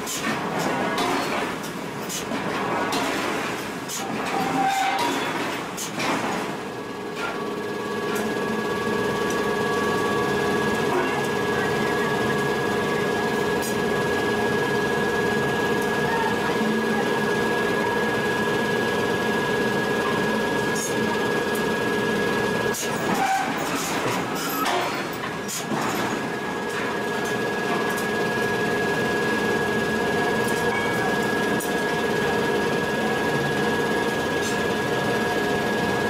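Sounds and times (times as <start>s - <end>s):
machinery hum and whine: 0.0s - 36.0s.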